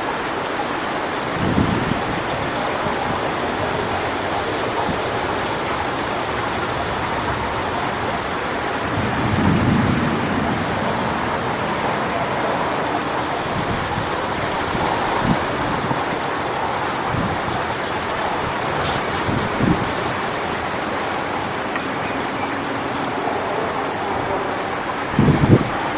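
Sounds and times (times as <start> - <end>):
low wind gusts: 0.0 - 25.9
strong wind through palm fronds: 0.0 - 25.9.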